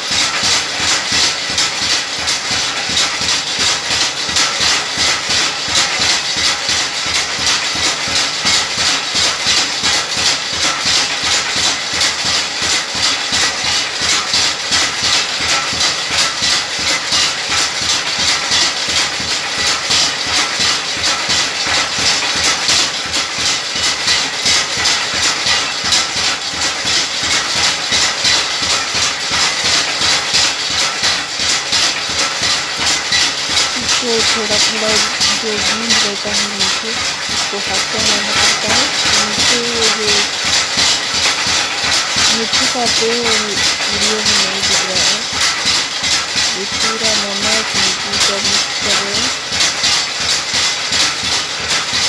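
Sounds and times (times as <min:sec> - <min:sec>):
grinding machine running: 0:00.0 - 0:52.0.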